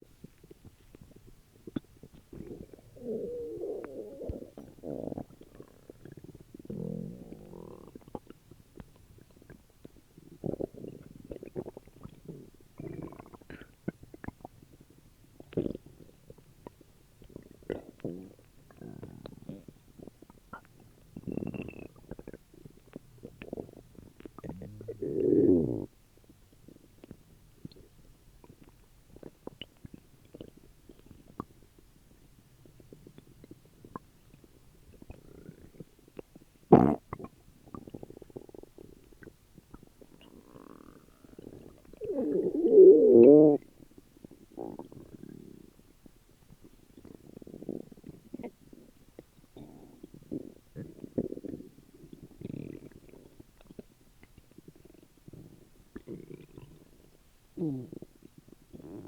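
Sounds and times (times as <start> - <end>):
stomach gurgling: 0.0 - 59.0.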